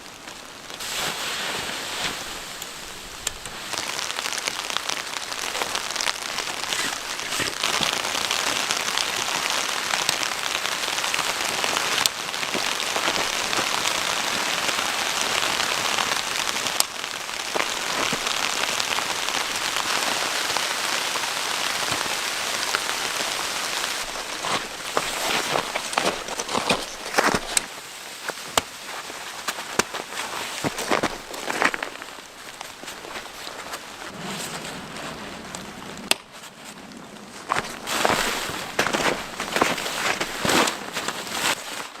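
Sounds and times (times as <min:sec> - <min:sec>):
rain pattering on a surface: 0:00.0 - 0:42.0.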